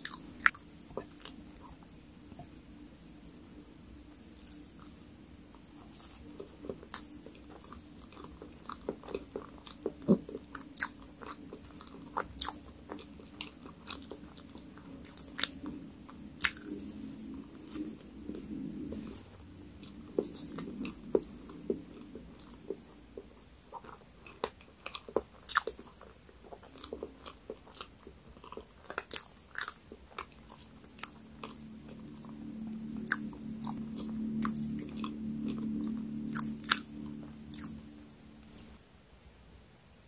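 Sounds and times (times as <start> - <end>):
person chewing with mouth clicks: 0.0 - 1.9, 4.3 - 38.7
low hum: 0.0 - 24.2, 29.6 - 39.6.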